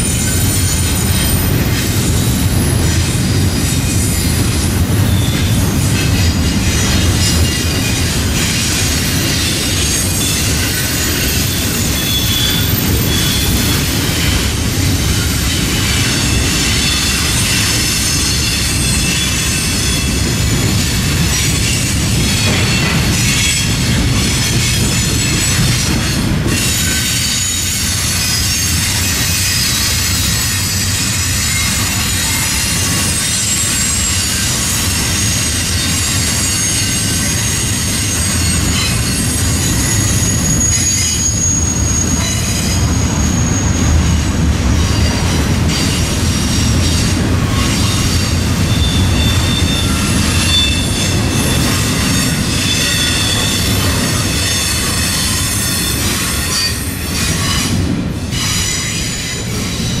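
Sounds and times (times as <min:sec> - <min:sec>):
freight train rumble: 0:00.0 - 1:00.0
train clacks: 0:00.0 - 1:00.0
wheels squealing against rails: 0:00.0 - 1:00.0.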